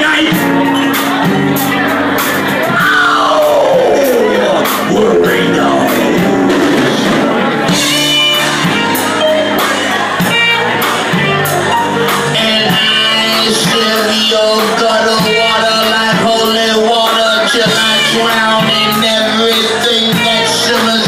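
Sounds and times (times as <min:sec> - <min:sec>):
live band playing: 0:00.0 - 0:21.0
steady drumbeat: 0:00.0 - 0:21.0.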